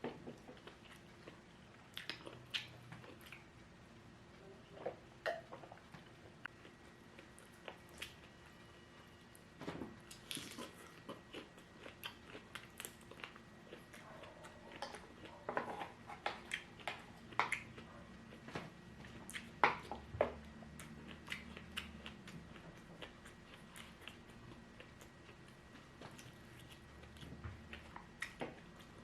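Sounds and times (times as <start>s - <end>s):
chewing and crunching food: 0.0s - 3.6s, 4.7s - 9.4s, 10.0s - 29.0s.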